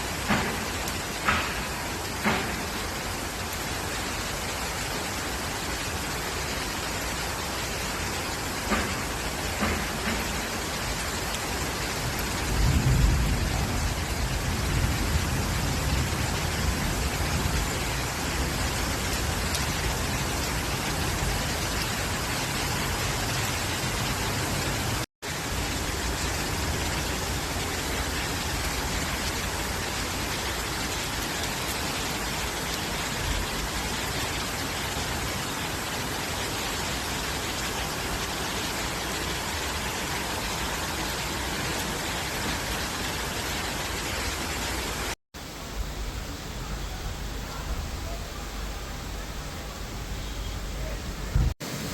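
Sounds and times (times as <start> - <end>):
rain falling on leaves: 0.0 - 51.9.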